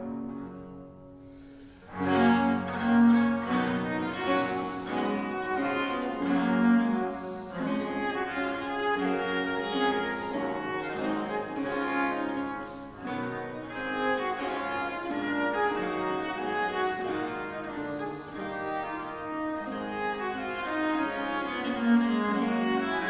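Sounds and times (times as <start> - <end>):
theorbo accompaniment: 0.0 - 23.0
viola da gamba bowed notes: 0.0 - 23.0.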